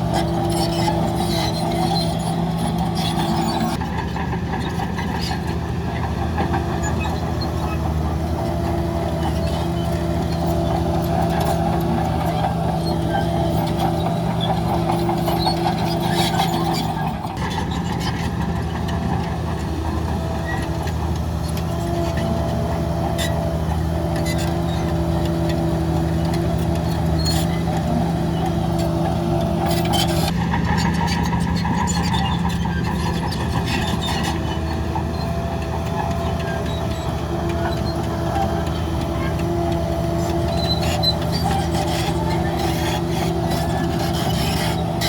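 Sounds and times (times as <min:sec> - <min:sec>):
diesel engine under load: 0:00.0 - 0:45.0.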